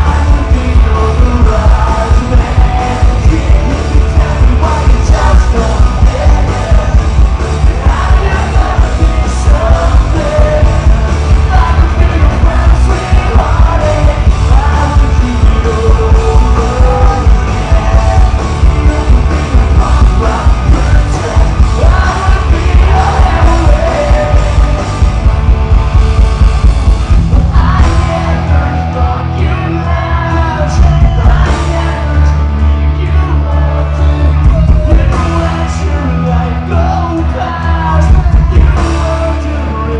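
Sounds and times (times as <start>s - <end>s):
lead vocals singing: 0.0s - 25.8s, 27.1s - 39.9s
held bass notes: 0.0s - 39.9s
live rock band: 0.0s - 39.9s.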